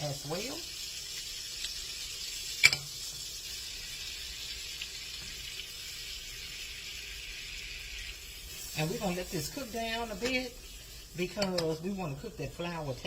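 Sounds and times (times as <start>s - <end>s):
butter and flour sizzling in a skillet: 0.0s - 13.0s.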